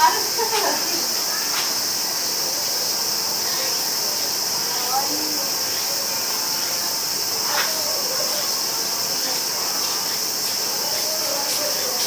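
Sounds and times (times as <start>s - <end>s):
high-pitched hissing drone: 0.0s - 12.0s.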